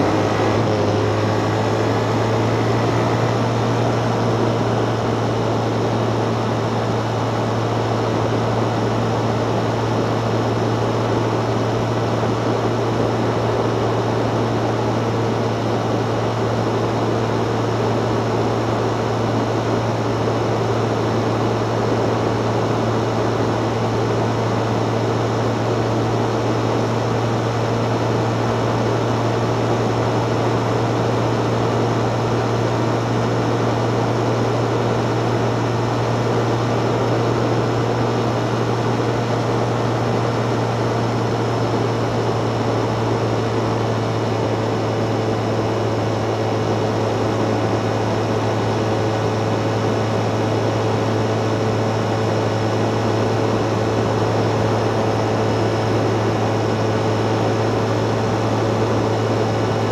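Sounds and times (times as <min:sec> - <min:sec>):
constant low hum: 0:00.0 - 0:59.9
wind and riding noise: 0:00.0 - 0:59.9.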